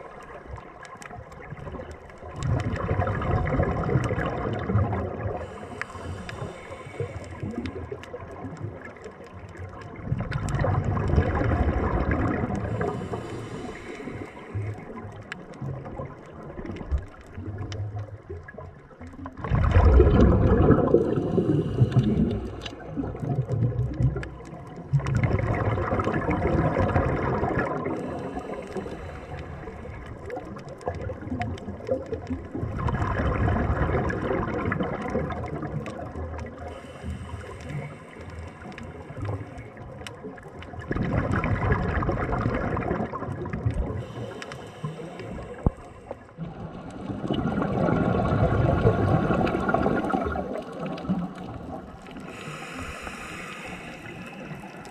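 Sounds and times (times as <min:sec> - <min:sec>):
underwater air bubbles gurgling: 0:00.0 - 0:54.9
underwater water noise: 0:00.0 - 0:54.9.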